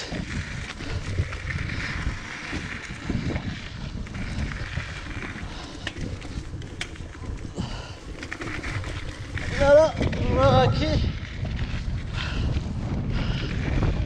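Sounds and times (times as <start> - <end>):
bike rattling over rough ground: 0.0 - 14.0
bike tyres rolling on dirt: 0.0 - 14.0
wind on microphone: 0.0 - 14.0.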